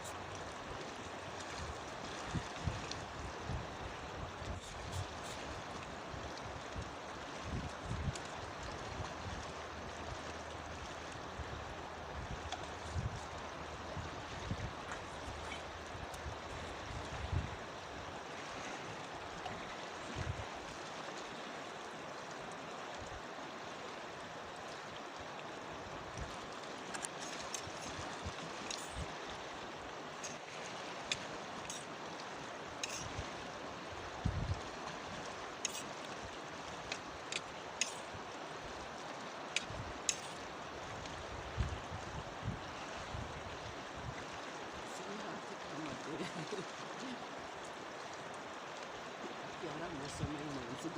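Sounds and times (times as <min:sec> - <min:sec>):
mountain river rushing: 0:00.0 - 0:50.9.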